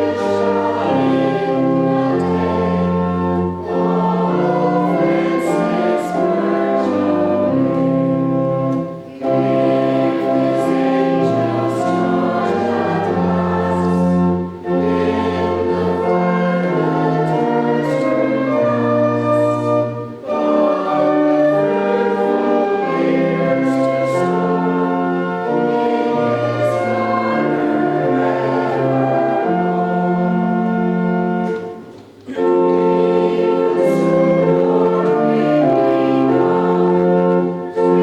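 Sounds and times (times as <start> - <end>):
church organ chords: 0.0 - 38.0
congregation singing a hymn: 0.0 - 38.0.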